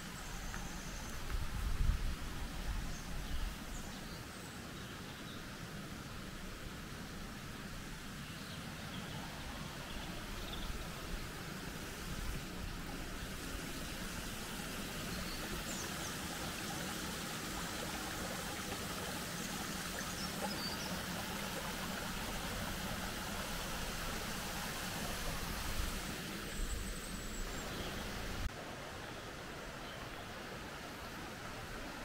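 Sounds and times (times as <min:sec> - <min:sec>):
river running over rocks: 0:00.0 - 0:32.0.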